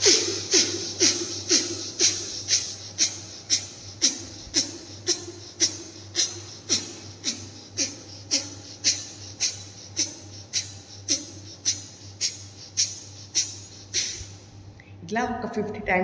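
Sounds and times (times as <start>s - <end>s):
rapid nasal breathing: 0.0s - 14.8s
faint low hum: 0.0s - 16.0s.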